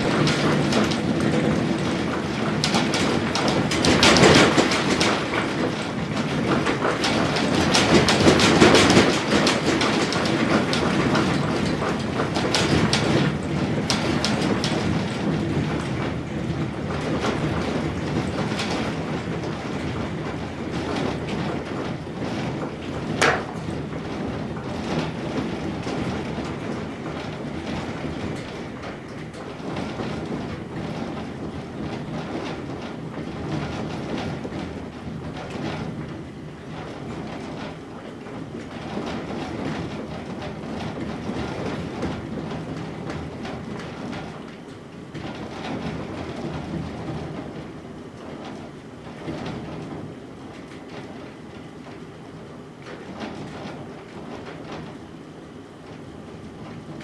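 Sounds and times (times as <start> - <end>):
earthquake rumbling and rattling: 0.0 - 55.0
small clatters and knocks: 0.0 - 55.1.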